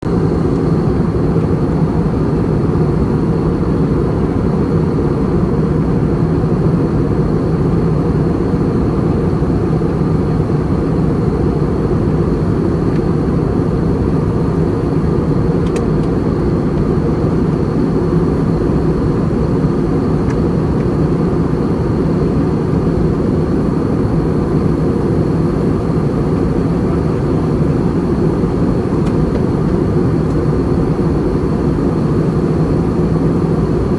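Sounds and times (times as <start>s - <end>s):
airplane cabin air rush and engine drone: 0.0s - 33.9s
faint high whine: 0.1s - 33.9s.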